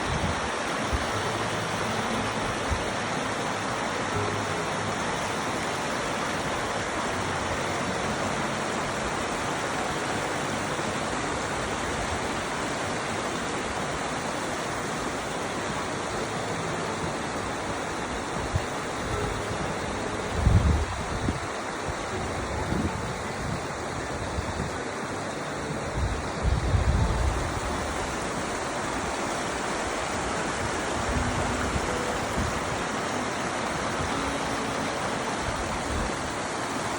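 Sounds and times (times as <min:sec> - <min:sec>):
stream water flowing: 0:00.0 - 0:36.9.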